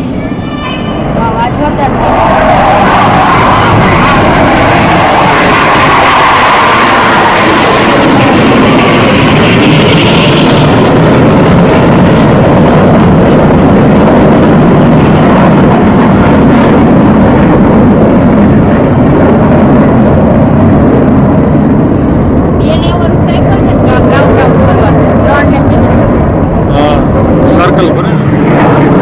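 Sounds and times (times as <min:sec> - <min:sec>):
jet aircraft roaring past: 0:00.0 - 0:29.0.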